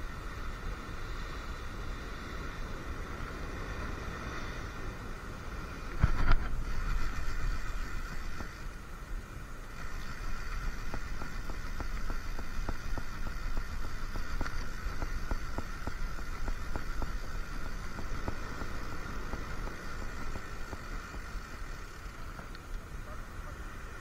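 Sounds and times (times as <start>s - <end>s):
wind rumble: 0.0s - 24.0s.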